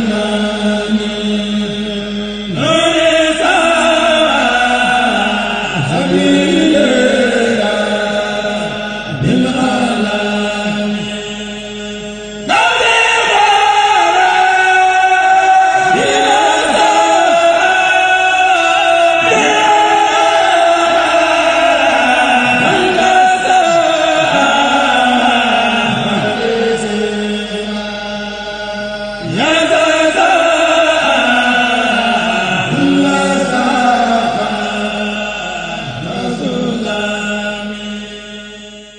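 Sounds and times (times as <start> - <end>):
lead voice singing ornamented lines: 0.0 - 38.9
men's choir chanting in unison: 0.0 - 38.9.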